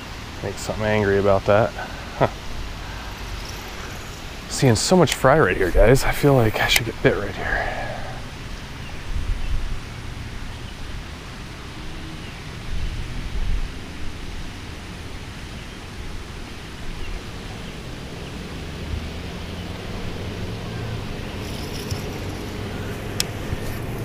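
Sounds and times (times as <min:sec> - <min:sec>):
wind buffeting microphone: 0:02.2 - 0:11.2, 0:12.5 - 0:24.0.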